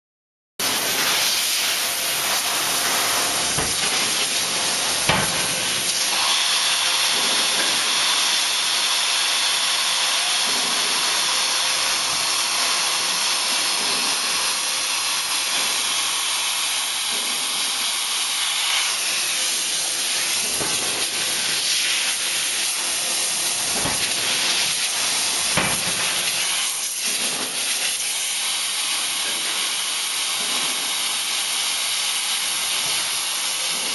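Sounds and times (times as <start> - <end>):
loud steady hiss: 0.6 - 33.9.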